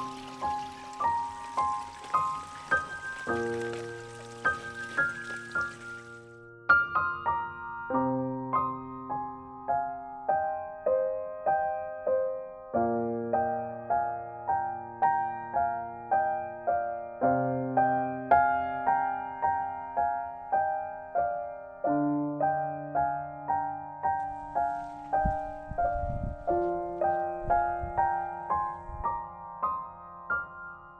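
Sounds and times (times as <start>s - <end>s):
solo piano music: 0.0s - 30.9s.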